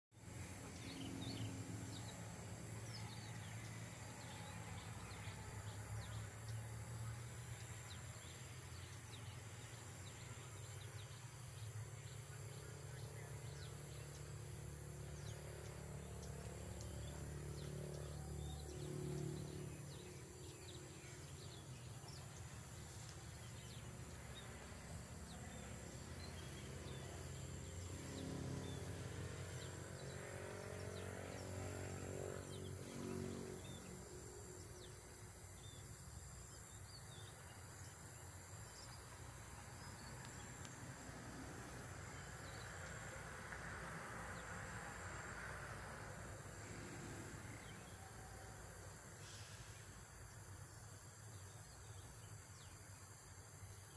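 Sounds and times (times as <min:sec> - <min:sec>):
insects: 0:00.2 - 0:53.9.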